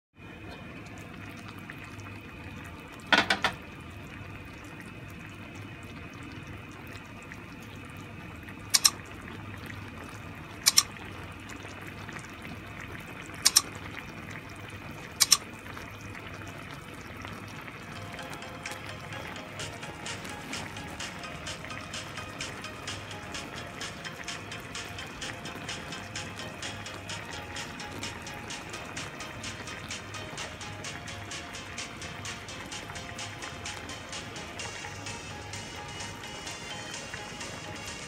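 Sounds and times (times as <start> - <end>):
broth simmering in a pan: 0.2 - 38.0.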